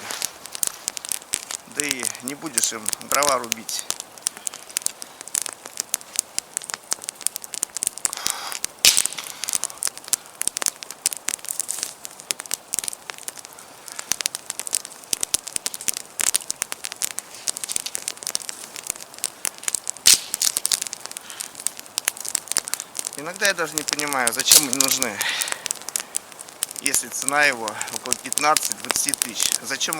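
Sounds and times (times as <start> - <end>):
campfire kindling crackling: 0.0 - 29.9
loud fire snap: 0.0 - 29.9.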